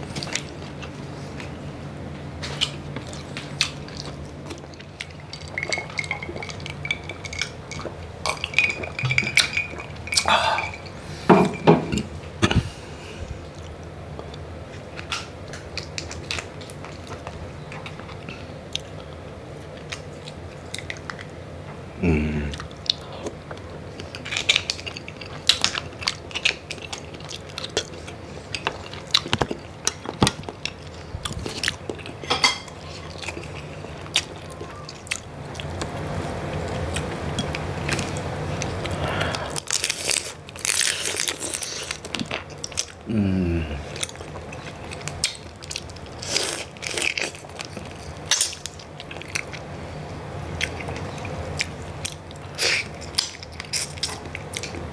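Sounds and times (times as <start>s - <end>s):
chewing and crunching: 0.0s - 1.7s, 2.4s - 11.1s, 12.0s - 21.4s, 22.5s - 54.9s.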